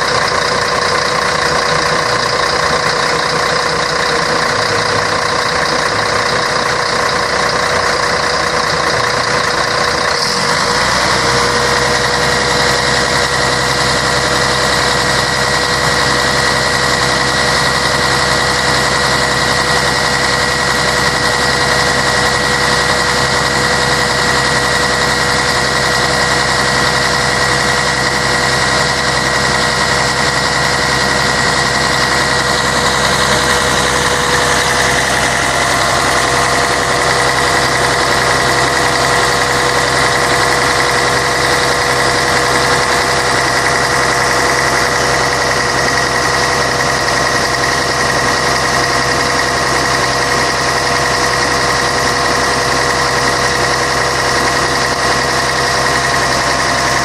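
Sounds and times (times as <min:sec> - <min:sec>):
bus diesel engine droning: 0:00.0 - 0:57.0
high whine: 0:00.0 - 0:57.0.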